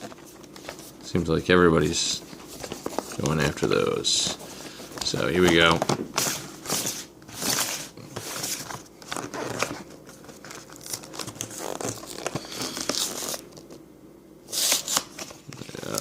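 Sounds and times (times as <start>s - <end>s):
packaging crinkling and tearing: 0.0s - 0.9s, 2.4s - 13.8s, 14.5s - 16.0s.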